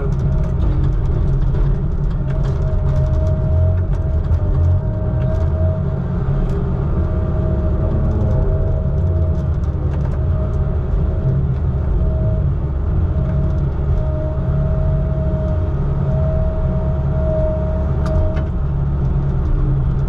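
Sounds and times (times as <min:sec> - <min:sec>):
diesel engine rumbling with whine: 0:00.0 - 0:20.0.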